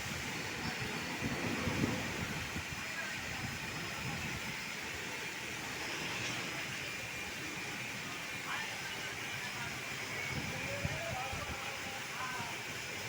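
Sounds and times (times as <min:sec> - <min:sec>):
low rumbling traffic: 0:00.0 - 0:13.0
faint indistinct voices: 0:00.2 - 0:13.0.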